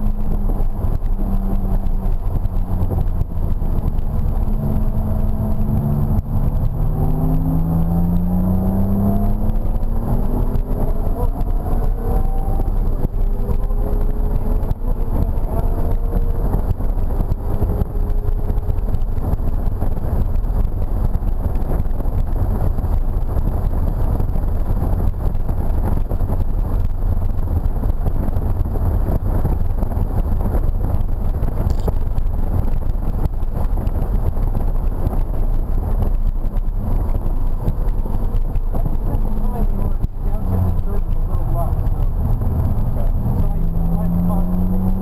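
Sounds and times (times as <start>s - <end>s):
car engine at speed: 0.0s - 45.0s
tyre noise: 0.0s - 45.0s.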